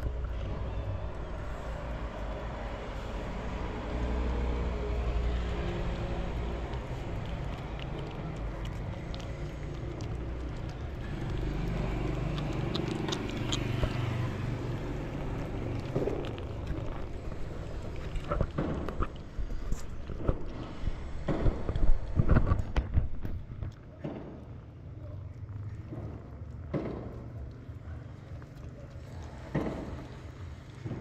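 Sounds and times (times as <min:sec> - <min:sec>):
cats chewing wet food: 0:00.0 - 0:24.2, 0:24.8 - 0:31.0
low rumble of road traffic: 0:00.0 - 0:31.0.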